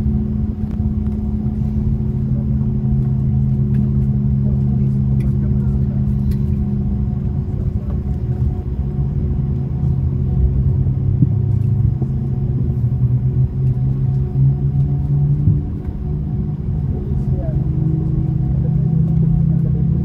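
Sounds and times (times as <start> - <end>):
airplane engines and airflow rumble: 0.0 - 20.0
steady hum tones: 0.0 - 20.0.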